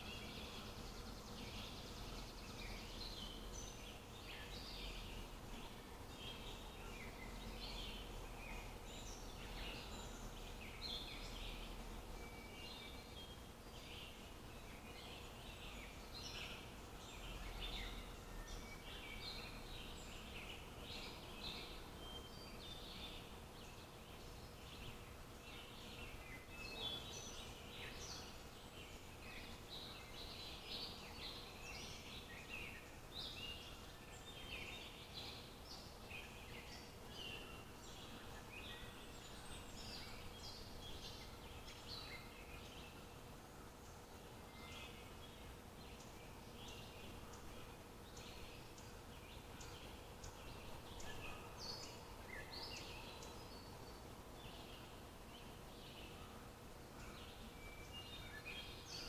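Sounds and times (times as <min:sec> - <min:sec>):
faint steady hum: 0:00.0 - 0:59.0
small birds chirping: 0:00.0 - 0:59.0.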